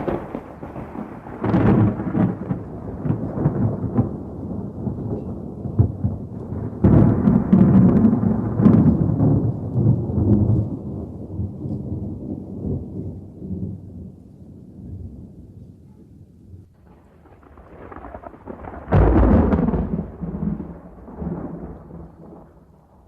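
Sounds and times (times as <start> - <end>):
thunder rumbling and cracking: 0.0 - 15.6, 16.7 - 23.0.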